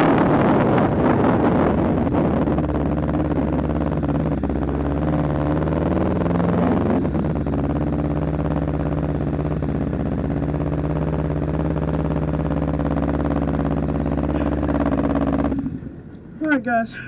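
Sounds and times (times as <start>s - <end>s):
motorcycle engine running at low revs: 0.0s - 16.4s.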